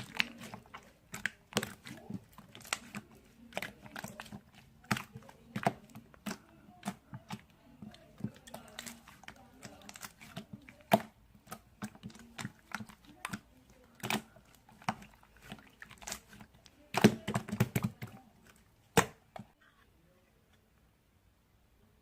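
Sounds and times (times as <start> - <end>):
slime squished by hand: 0.0 - 19.5.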